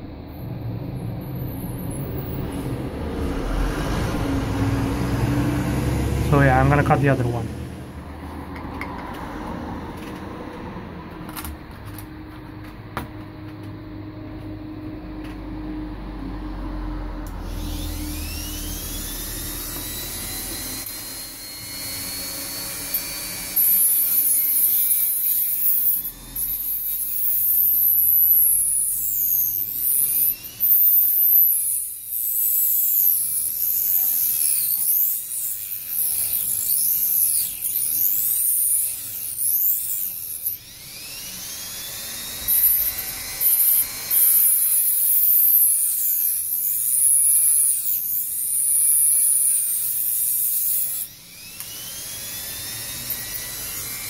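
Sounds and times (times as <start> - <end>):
rotary tool cutting metal: 1.2 - 12.7, 17.2 - 54.0.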